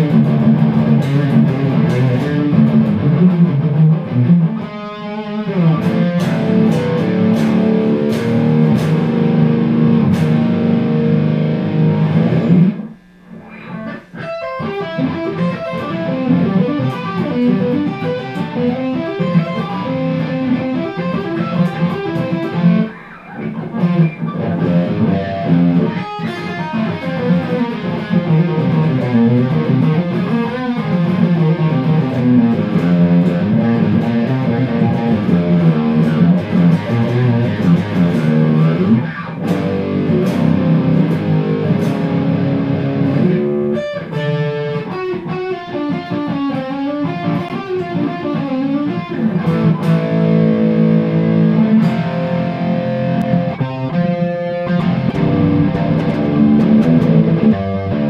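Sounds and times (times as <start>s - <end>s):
electric guitar lead run: 0.0s - 58.0s.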